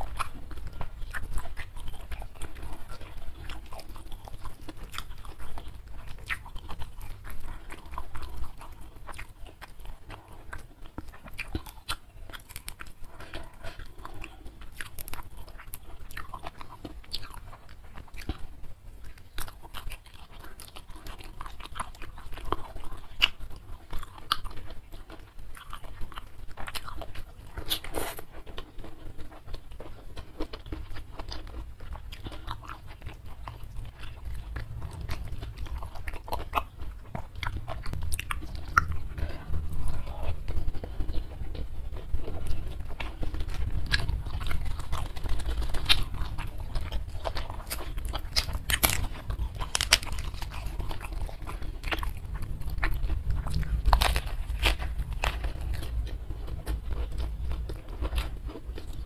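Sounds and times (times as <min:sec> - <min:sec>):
chewing crispy food: 0:00.0 - 0:59.0.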